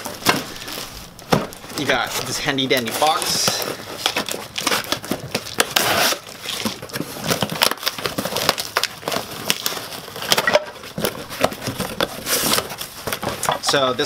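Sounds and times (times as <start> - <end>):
cardboard box being opened: 0.0 - 13.5
plastic wrapping crinkling: 0.0 - 14.0.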